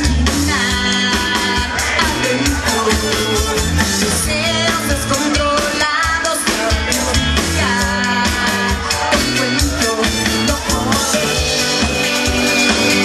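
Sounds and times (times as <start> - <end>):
pop-rock band playing live: 0.0 - 13.0
woman singing: 0.0 - 13.0.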